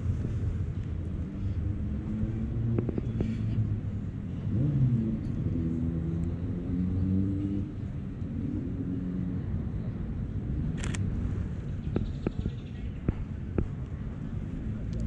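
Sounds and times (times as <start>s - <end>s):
low rumble of city traffic: 0.0s - 15.0s
vehicle engine hum: 0.0s - 15.0s.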